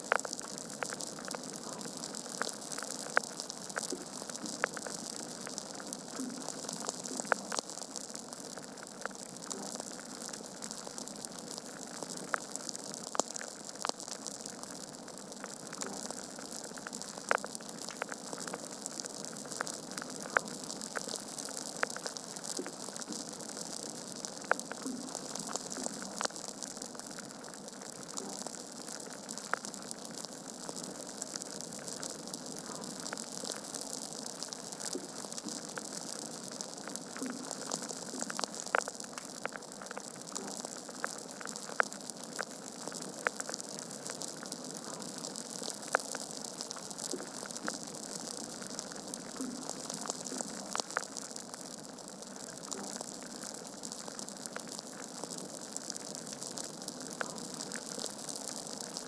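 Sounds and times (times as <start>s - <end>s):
log fire crackling and popping: 0.0s - 59.0s.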